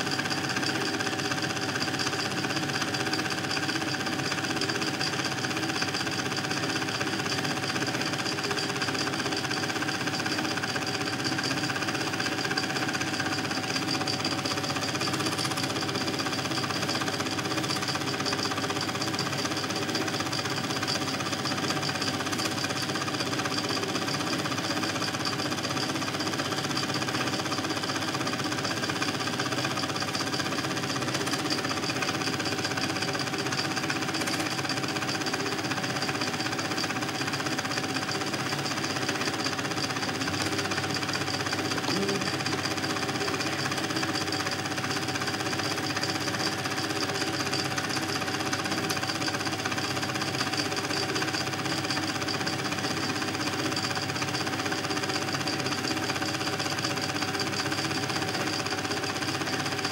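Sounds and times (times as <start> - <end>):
film projector rattling: 0.0 - 59.9.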